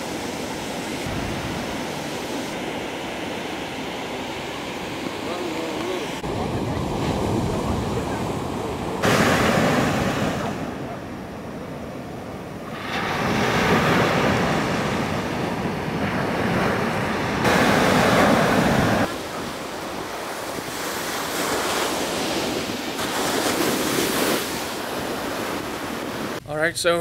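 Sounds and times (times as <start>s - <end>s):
ocean surf breaking: 0.0s - 26.4s.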